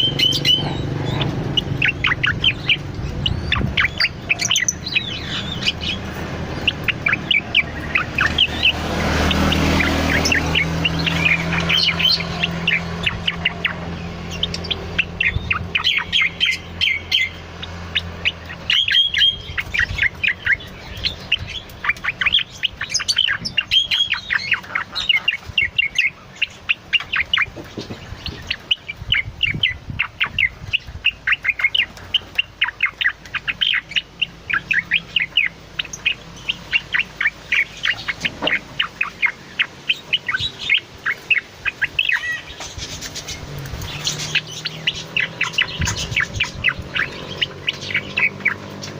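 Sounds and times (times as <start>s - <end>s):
bird chirping song: 0.0s - 48.9s.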